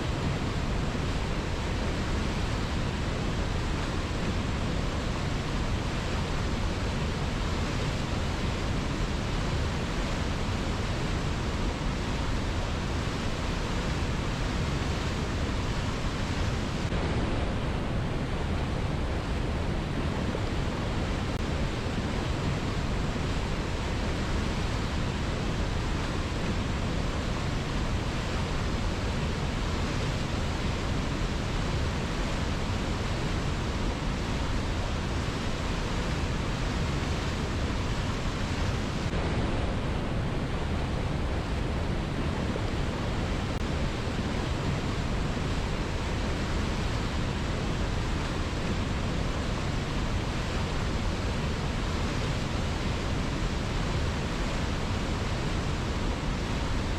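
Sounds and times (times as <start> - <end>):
river rushing: 0.0 - 56.9.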